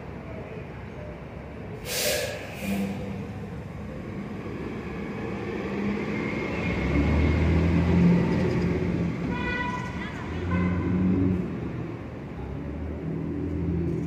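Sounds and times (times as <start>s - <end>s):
subway train rumbling: 0.0s - 14.0s.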